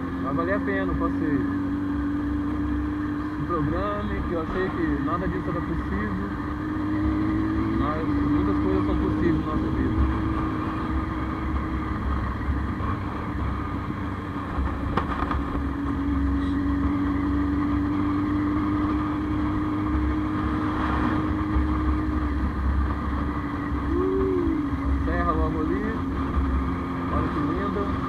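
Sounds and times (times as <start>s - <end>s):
motorcycle engine cruising: 0.0s - 28.0s
road and wind noise: 0.0s - 28.0s.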